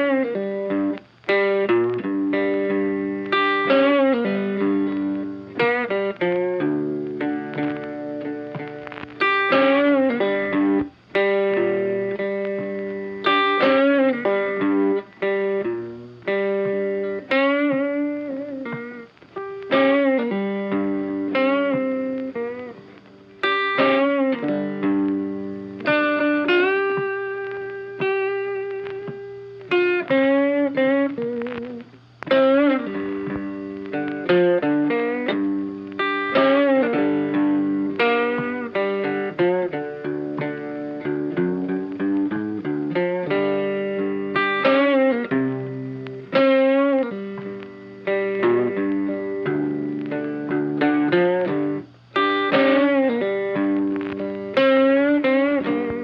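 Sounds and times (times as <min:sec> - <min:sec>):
guitar melody with bent notes: 0:00.0 - 0:56.0.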